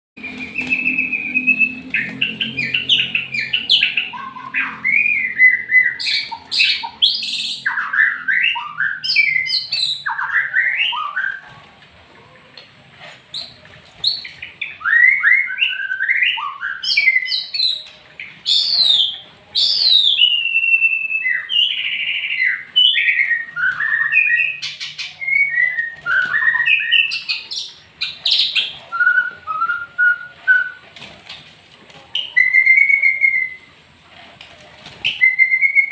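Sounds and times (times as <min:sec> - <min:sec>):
bird singing whistled phrases: 0:00.2 - 0:11.4, 0:13.4 - 0:30.8, 0:32.2 - 0:33.7, 0:35.0 - 0:35.9.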